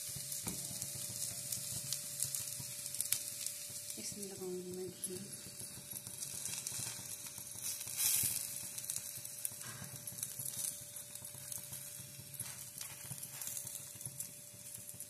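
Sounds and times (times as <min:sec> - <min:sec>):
flatbread sizzling in ghee: 0:00.0 - 0:15.0.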